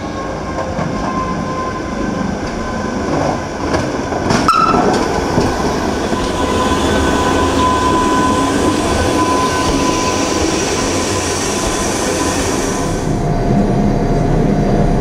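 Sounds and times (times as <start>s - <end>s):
electric train whine and rumble: 0.0s - 15.0s.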